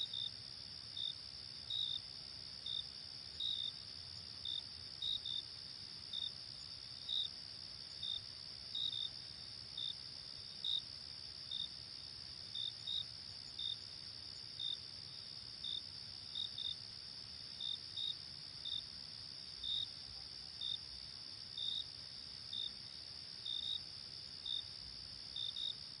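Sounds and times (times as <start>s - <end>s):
cricket chirps: 0.0s - 26.0s.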